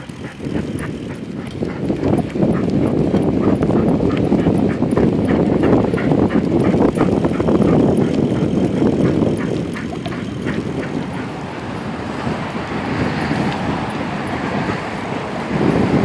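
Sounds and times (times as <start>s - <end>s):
quick light clicks of dog paws: 0.0s - 11.5s, 12.7s - 15.5s
bicycle tyres rolling on pavement: 0.0s - 16.0s
wind buffeting microphone: 0.0s - 16.0s.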